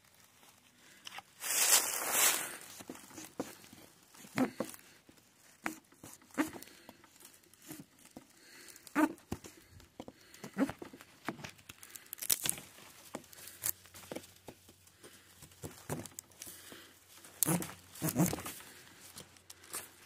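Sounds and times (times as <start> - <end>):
rustling and crinkling: 0.0 - 20.0.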